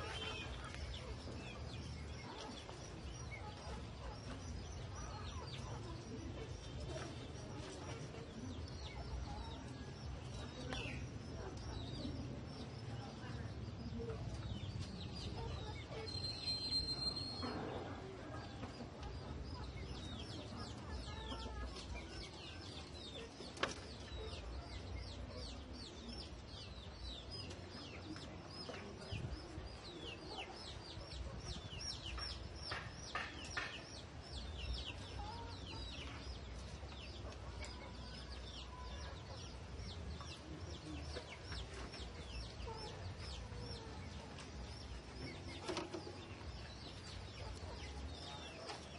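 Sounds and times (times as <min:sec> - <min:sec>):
chickens peeping: 0:00.0 - 0:48.9.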